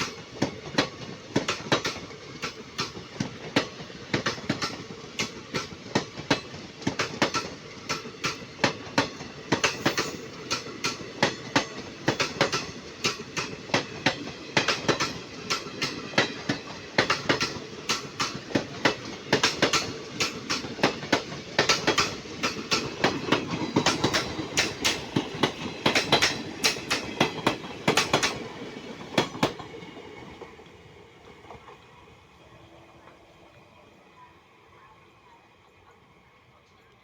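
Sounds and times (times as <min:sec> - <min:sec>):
train wheels clacking: 0:00.0 - 0:30.6
train rumble: 0:00.0 - 0:37.0.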